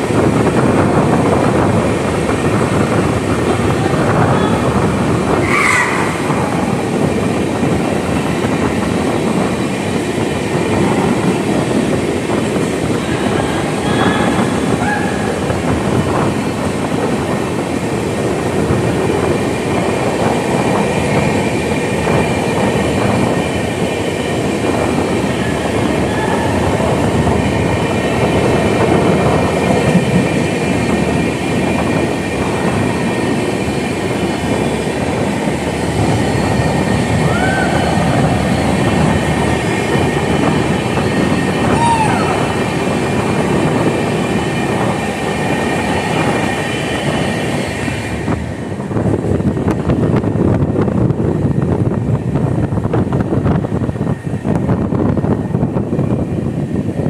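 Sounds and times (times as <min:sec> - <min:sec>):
train echoing in tunnel: 0:00.0 - 0:57.0.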